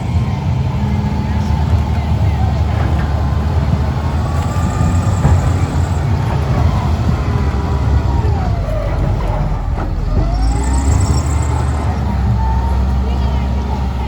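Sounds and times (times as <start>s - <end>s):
faint siren wailing: 0.0s - 14.0s
vehicle engine rumbling: 0.0s - 14.0s.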